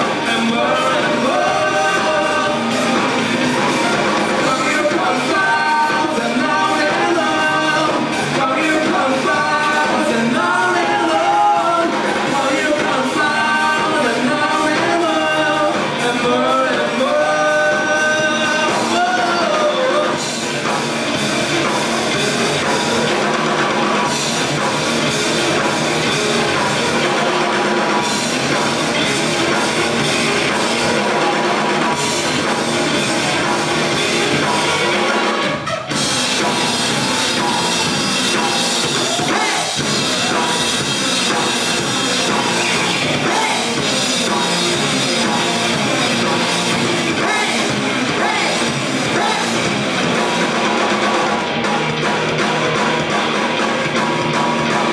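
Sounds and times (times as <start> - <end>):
person singing: 0.0 - 20.7, 21.6 - 51.1
rock band playing: 0.0 - 54.9.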